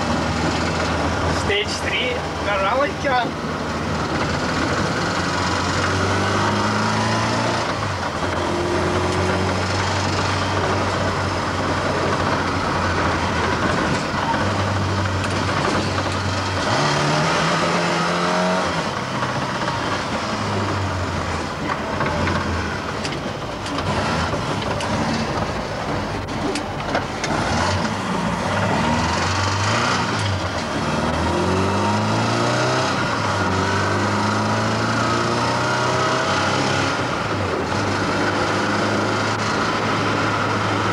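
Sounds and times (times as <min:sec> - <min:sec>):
car engine revving through gears: 0:00.0 - 0:40.9.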